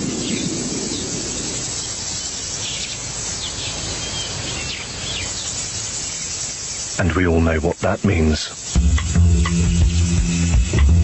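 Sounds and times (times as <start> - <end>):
insects hissing: 0.0 - 11.0.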